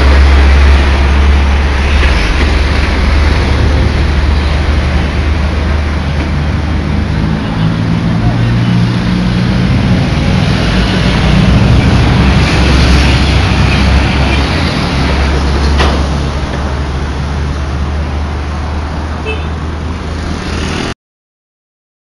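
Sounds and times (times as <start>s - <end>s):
trucks passing: 0.0s - 21.0s.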